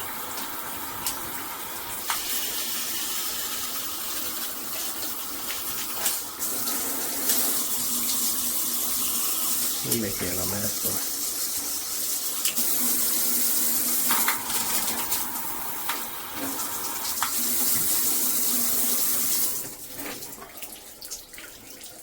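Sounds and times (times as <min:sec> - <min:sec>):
water spraying from shower head: 0:00.0 - 0:20.1.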